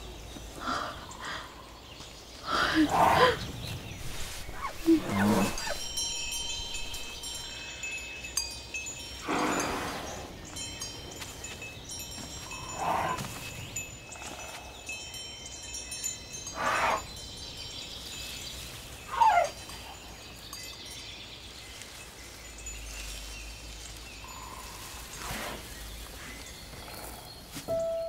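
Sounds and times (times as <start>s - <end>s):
wind chimes ringing: 3.9s - 28.0s.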